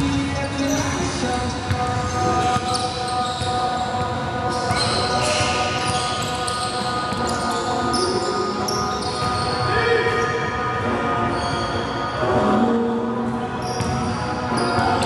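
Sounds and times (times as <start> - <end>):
players' voices: 0.0 - 15.0.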